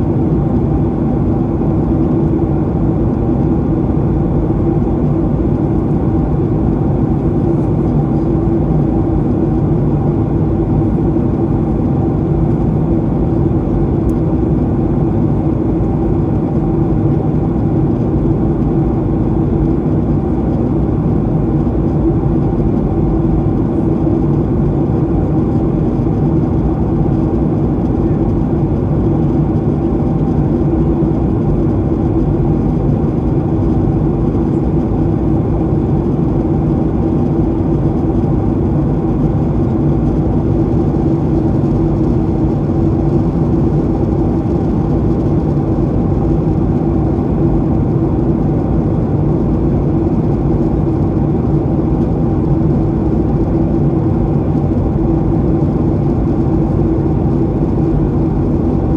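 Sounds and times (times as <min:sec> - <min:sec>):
airliner cabin engine drone: 0:00.0 - 0:58.9.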